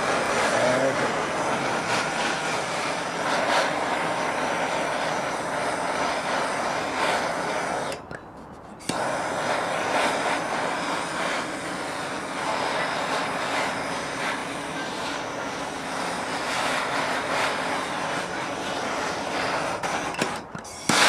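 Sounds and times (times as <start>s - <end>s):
gas torch flame rushing: 0.0s - 21.0s.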